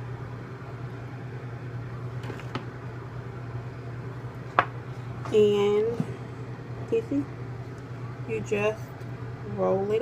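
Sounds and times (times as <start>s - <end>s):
appliance humming: 0.0s - 10.0s.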